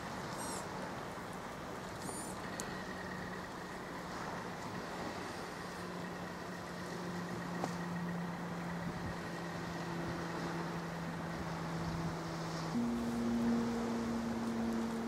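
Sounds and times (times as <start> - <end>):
constant hiss: 0.0 - 15.0.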